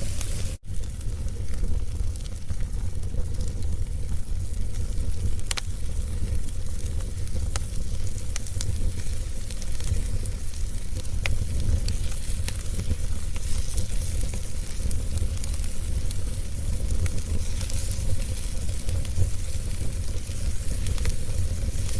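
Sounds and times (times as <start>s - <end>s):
fire low rumble and hiss: 0.0s - 21.9s
wood fire crackling and popping: 0.0s - 21.9s.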